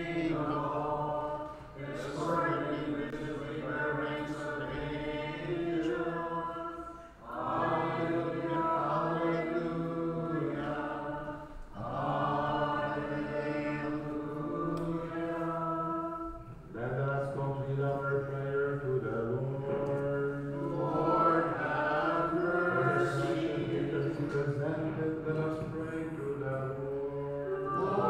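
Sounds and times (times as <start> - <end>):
liturgical chant: 0.0 - 28.0.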